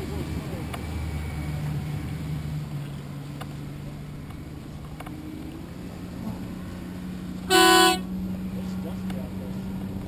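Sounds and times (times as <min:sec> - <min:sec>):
moving water: 0:00.0 - 0:10.0.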